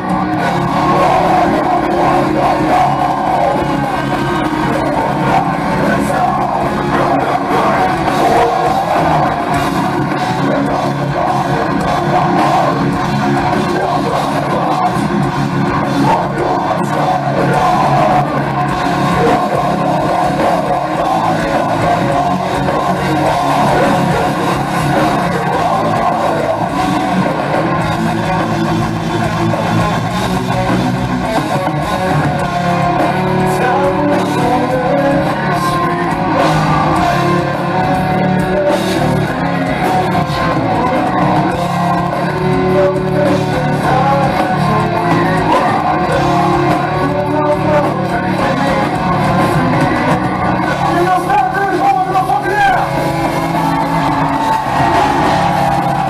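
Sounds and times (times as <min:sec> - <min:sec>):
distorted electric guitars: 0:00.0 - 0:56.0
drums: 0:00.0 - 0:56.0
heavy metal band playing live: 0:00.0 - 0:56.0
person singing: 0:00.0 - 0:56.0.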